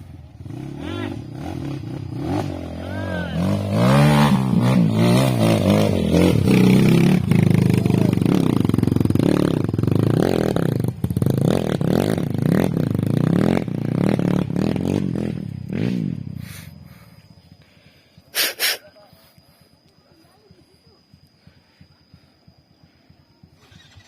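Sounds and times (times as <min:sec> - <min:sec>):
motorcycle engine revving: 0:00.0 - 0:17.8, 0:22.1 - 0:24.0.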